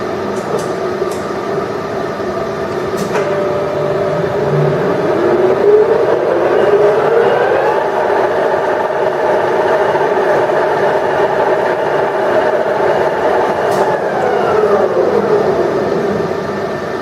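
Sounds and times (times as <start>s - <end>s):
lathe gearbox whine and hum: 0.0s - 17.0s.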